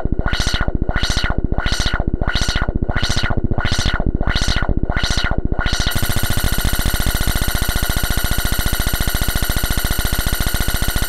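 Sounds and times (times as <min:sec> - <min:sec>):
synthesizer low pulsing with filter sweep: 0:00.0 - 0:11.0.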